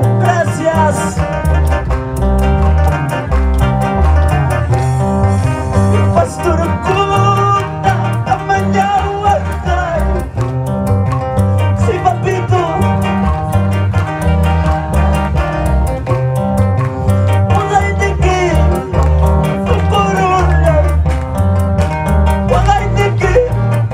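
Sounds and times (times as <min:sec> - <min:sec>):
worship band playing: 0:00.0 - 0:23.9.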